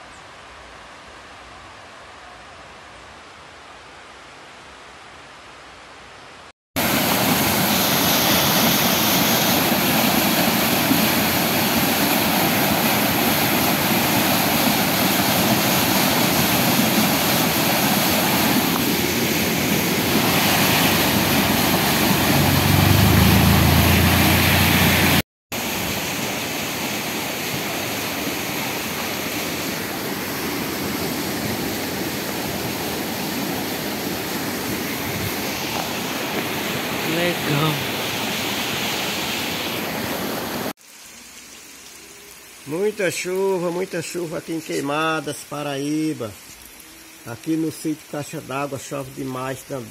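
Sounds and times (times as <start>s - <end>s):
rainwater rushing on road: 6.8s - 39.2s, 40.0s - 49.9s.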